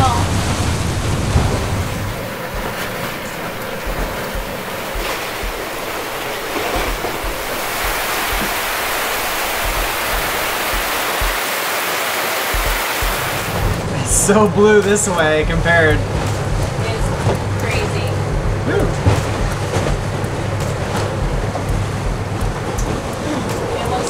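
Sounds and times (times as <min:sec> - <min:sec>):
wind buffeting microphone: 0:00.0 - 0:11.4, 0:12.5 - 0:24.0
wind and rain over sea: 0:00.0 - 0:24.0.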